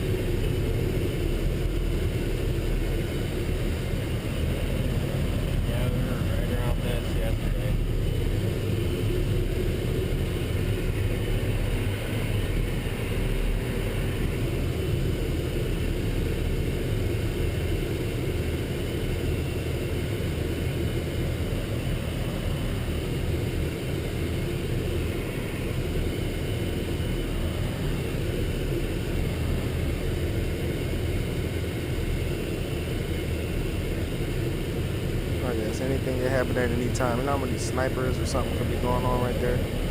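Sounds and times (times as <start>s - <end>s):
road noise: 0.0s - 19.0s, 19.6s - 39.9s
truck engine rumble: 0.0s - 39.9s.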